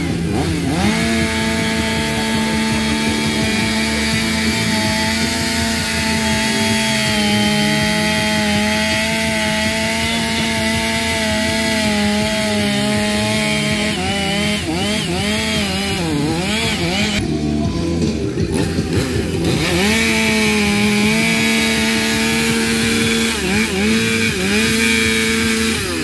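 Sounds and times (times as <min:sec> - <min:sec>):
chainsaw cutting wood: 0:00.0 - 0:17.6, 0:18.2 - 0:26.0.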